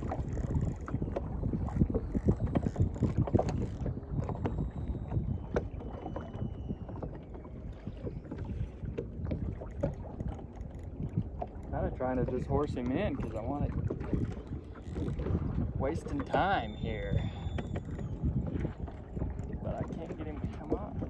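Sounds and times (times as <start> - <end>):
water lapping against hull: 0.0 - 21.0
wind buffeting microphone: 0.0 - 21.0.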